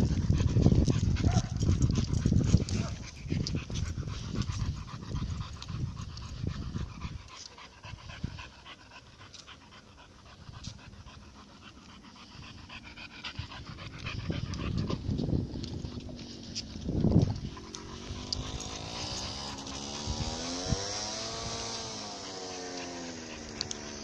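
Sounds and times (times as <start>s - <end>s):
dog panting: 0.0s - 24.0s.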